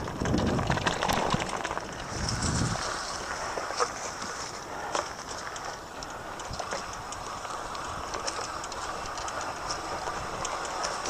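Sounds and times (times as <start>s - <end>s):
bike tyres rolling: 0.0s - 11.0s
small ticks and clicks: 0.0s - 11.0s.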